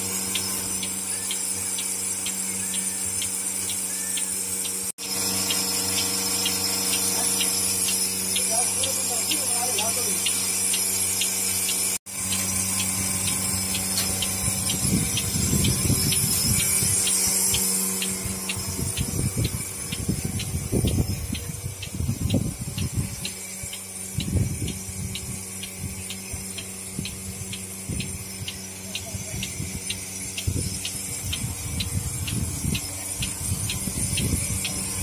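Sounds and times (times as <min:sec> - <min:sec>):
pulsator clicking: 0:00.0 - 0:35.0
vacuum pump hum: 0:00.0 - 0:35.0.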